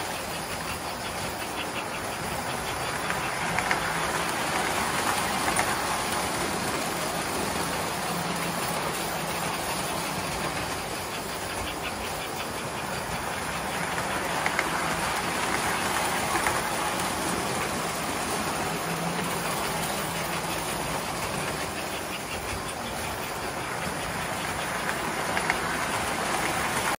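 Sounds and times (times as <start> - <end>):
electric motors humming: 0.0 - 27.0
toy train wheels clattering on rails: 0.0 - 27.0.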